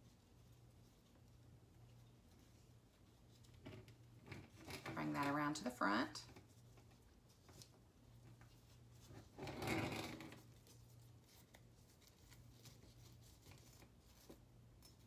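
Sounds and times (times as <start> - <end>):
ribbon rustling against jar: 0.0 - 15.0.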